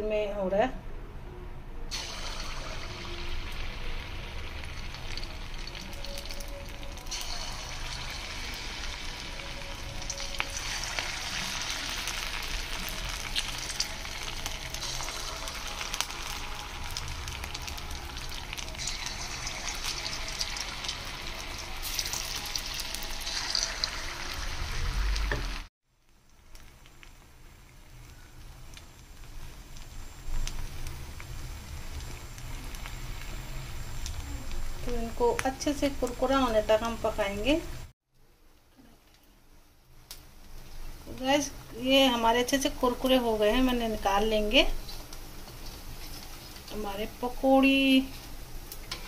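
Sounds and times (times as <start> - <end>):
batter sizzling in hot oil: 1.9 - 37.9, 39.8 - 49.0.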